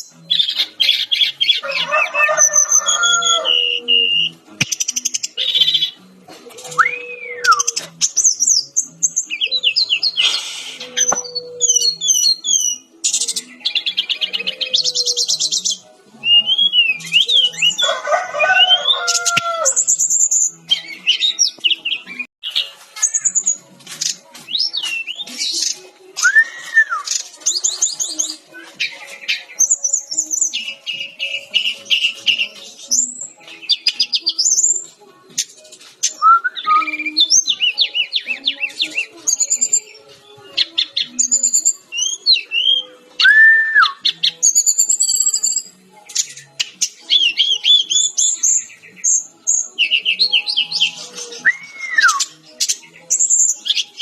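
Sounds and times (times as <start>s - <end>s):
bird singing trills and whistles: 2.2s - 6.0s, 6.6s - 17.9s, 18.6s - 54.0s.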